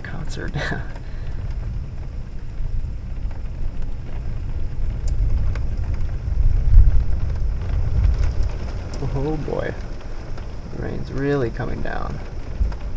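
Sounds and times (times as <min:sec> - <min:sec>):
rain falling: 0:00.0 - 0:12.9
thunder rumbling: 0:00.0 - 0:12.9.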